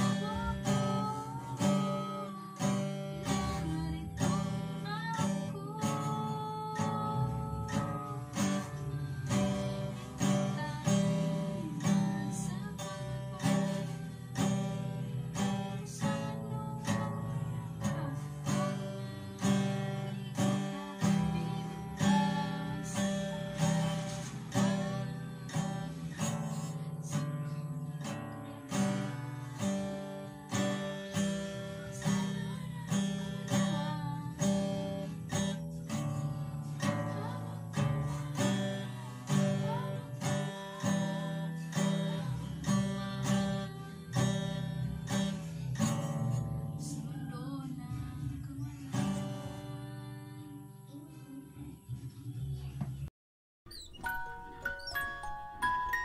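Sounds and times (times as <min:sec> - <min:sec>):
acoustic guitar strumming: 0:00.0 - 0:51.4.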